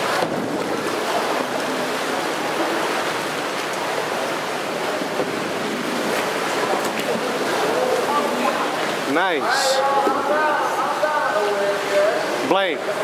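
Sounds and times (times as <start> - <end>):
kayak splashing: 0.0 - 13.0
water lapping in indoor pool: 0.0 - 13.0.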